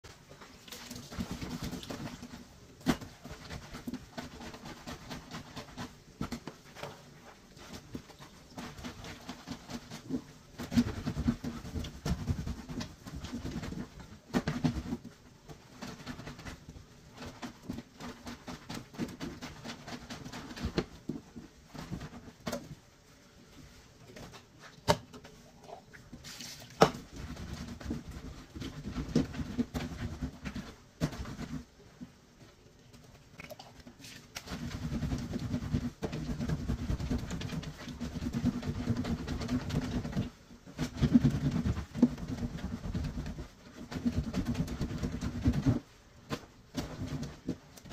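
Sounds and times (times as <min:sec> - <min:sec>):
clothes rubbing on washboard: 0:00.2 - 0:32.3, 0:33.9 - 0:47.9.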